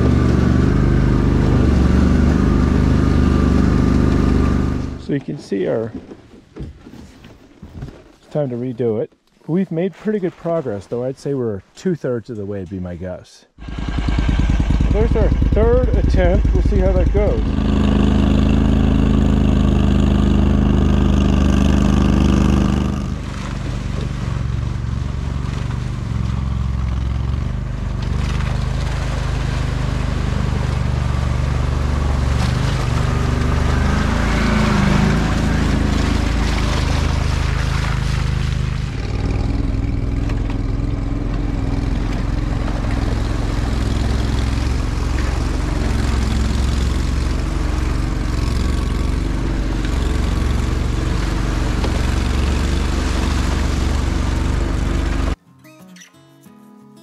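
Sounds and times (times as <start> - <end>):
atv engine running under load: 0.0 - 5.2, 13.6 - 55.4.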